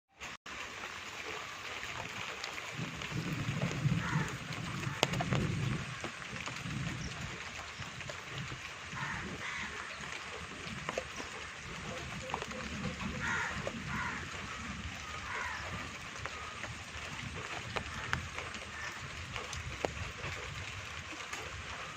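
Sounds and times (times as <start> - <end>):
steady rain falling: 0.2 - 21.9
sharp drips: 0.5 - 21.9.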